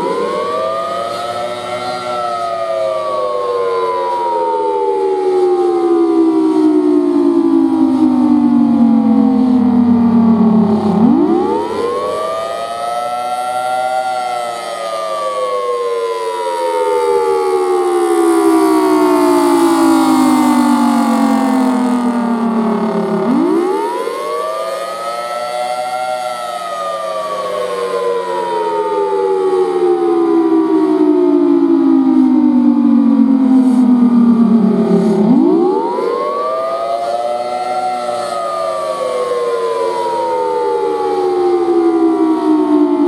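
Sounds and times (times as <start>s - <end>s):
civil defense siren winding: 0.0s - 43.0s.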